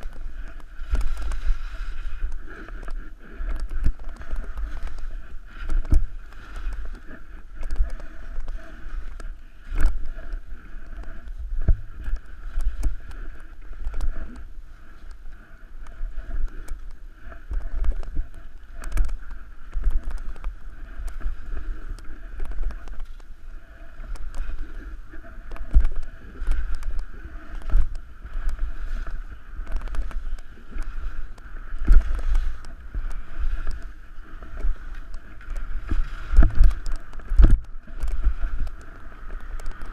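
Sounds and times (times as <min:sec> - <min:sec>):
skis scraping over snow: 0:00.0 - 0:39.9
wind rumbling on microphone: 0:00.0 - 0:39.9.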